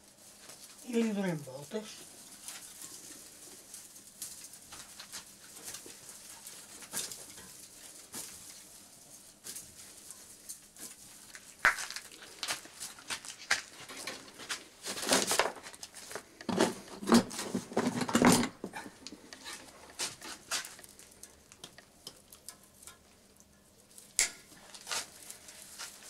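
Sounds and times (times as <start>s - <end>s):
dry twigs crackling and rustling: 0.0s - 18.0s, 18.7s - 26.0s.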